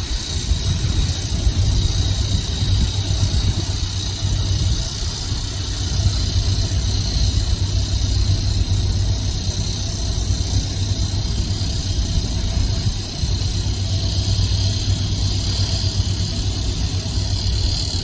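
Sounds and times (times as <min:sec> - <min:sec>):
engine running: 0:00.0 - 0:18.0
steady hiss: 0:00.0 - 0:18.0.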